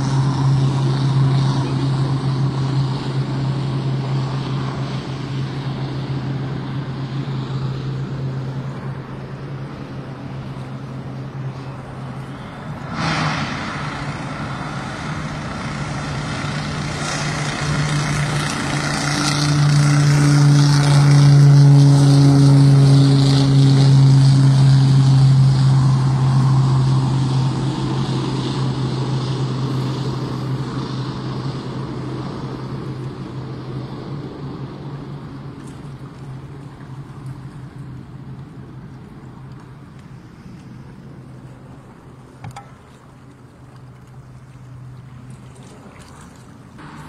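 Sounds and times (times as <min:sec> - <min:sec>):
propeller plane engine drone: 0:00.0 - 0:47.0.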